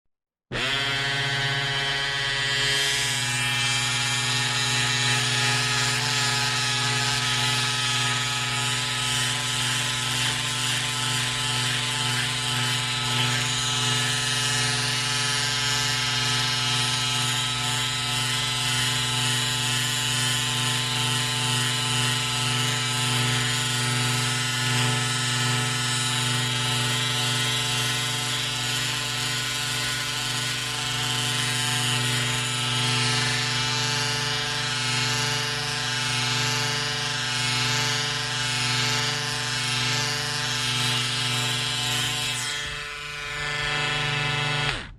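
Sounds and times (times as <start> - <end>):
electric razor humming: 0.5 - 44.9.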